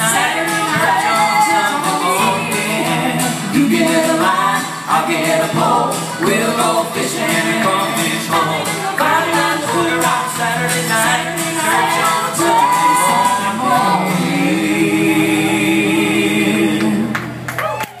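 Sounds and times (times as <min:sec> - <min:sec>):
group singing in close harmony: 0:00.0 - 0:17.5.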